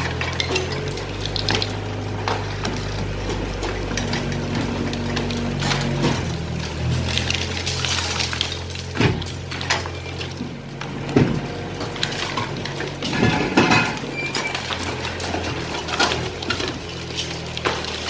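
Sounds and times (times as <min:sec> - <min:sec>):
concrete rubble clattering: 0:00.0 - 0:18.0
excavator diesel engine running: 0:00.0 - 0:18.0.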